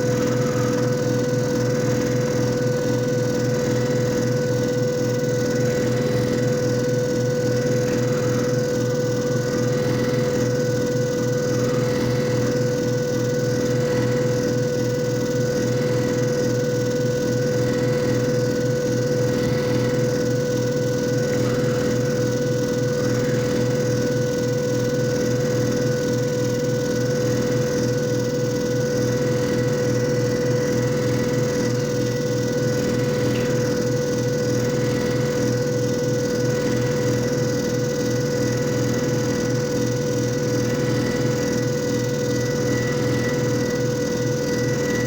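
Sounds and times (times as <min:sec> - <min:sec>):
disc repair machine motor hum: 0:00.0 - 0:45.0.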